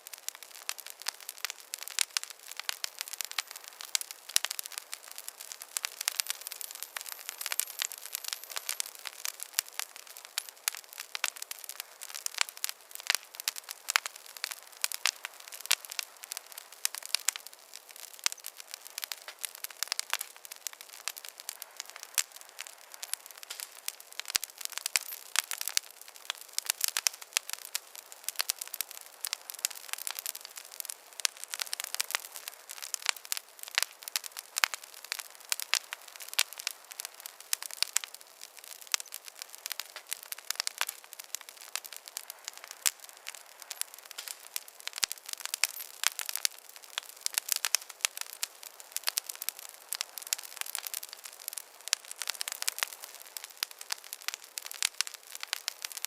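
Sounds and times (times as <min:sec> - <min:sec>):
faint hiss: 0:00.0 - 0:56.0
wood fire crackling: 0:00.0 - 0:56.0.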